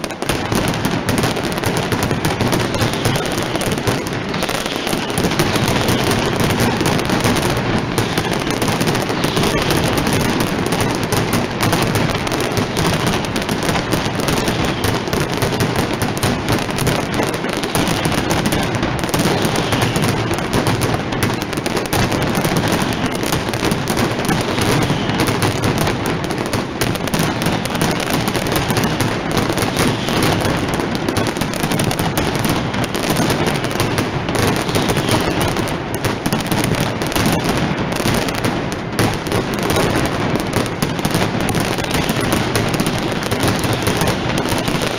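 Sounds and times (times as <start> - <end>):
firecrackers barrage: 0.0 - 44.9.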